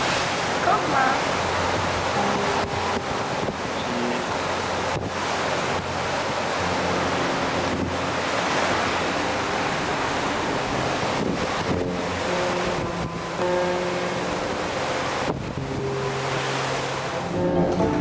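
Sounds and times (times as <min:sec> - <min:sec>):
sea wash: 0:00.0 - 0:18.0
wind on microphone: 0:00.0 - 0:18.0.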